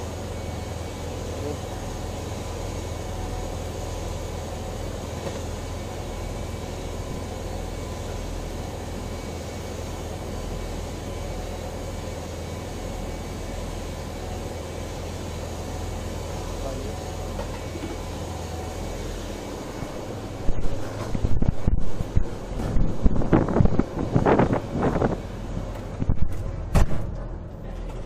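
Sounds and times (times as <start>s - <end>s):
ship engine drone: 0.0s - 28.0s.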